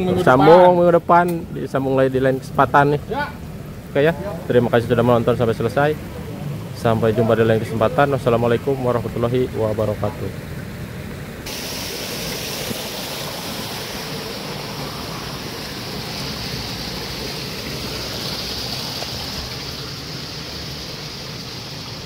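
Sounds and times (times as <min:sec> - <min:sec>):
water rushing in a channel: 0:00.0 - 0:22.0.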